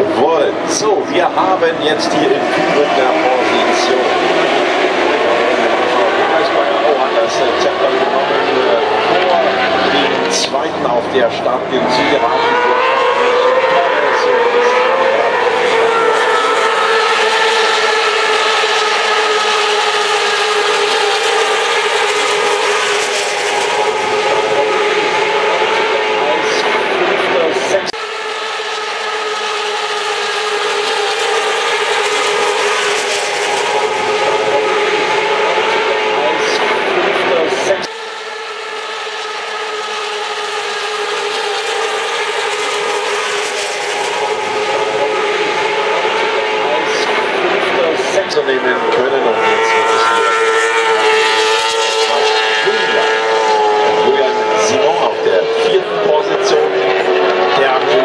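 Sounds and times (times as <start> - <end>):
racing motorcycles at high revs: 0.0 - 58.0.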